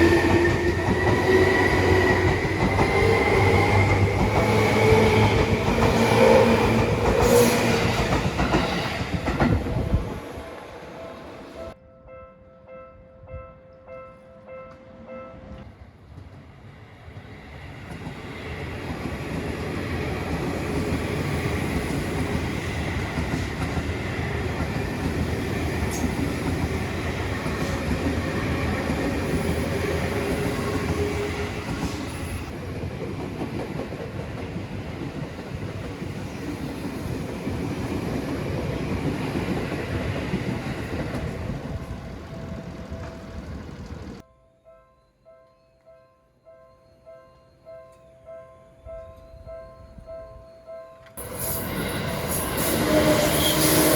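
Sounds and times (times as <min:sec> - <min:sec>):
electric train passing: 0:00.0 - 0:11.8, 0:14.6 - 0:44.3, 0:47.7 - 0:53.9.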